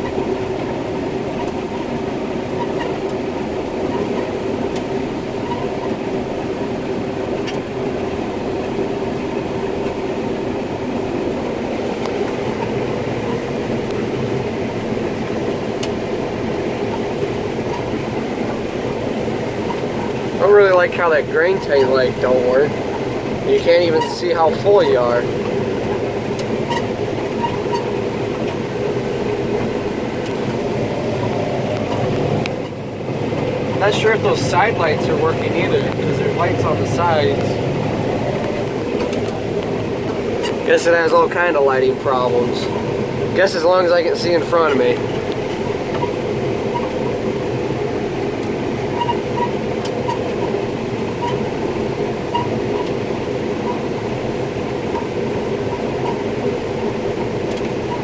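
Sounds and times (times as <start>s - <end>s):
combine harvester drone: 0.0s - 58.0s.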